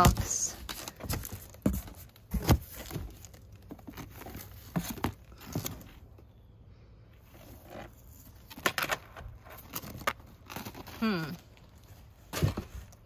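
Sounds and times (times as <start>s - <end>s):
rummaging through cardboard box: 0.0s - 6.2s, 7.2s - 8.6s, 9.4s - 13.0s.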